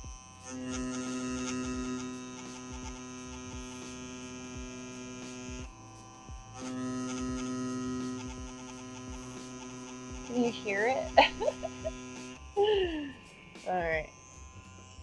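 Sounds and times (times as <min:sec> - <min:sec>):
tattoo pen motor buzzing: 0:00.0 - 0:15.0.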